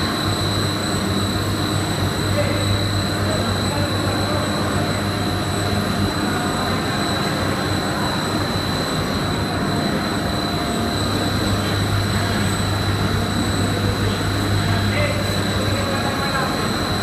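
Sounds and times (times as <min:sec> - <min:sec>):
machine low hum: 0:00.0 - 0:17.0
thin high whine: 0:00.0 - 0:17.0.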